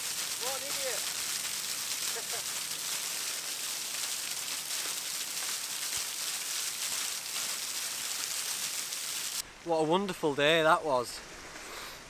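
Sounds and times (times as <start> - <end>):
sea waves washing on shore: 0.0 - 9.7.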